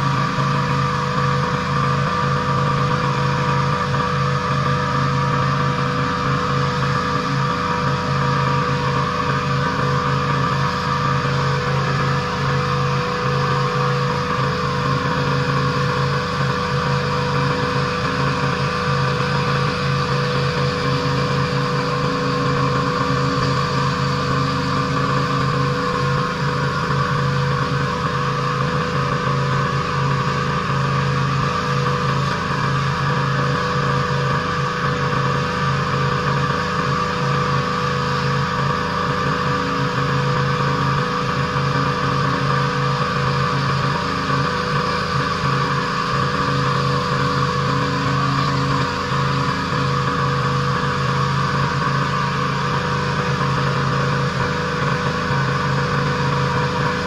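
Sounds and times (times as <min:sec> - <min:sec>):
pressure washer engine drone: 0:00.0 - 0:57.0.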